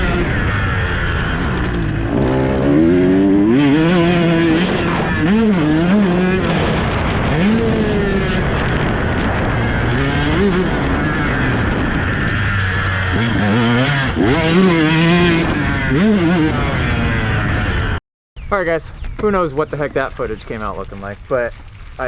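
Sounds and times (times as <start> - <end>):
dirt bike engine revving: 0.0 - 19.4.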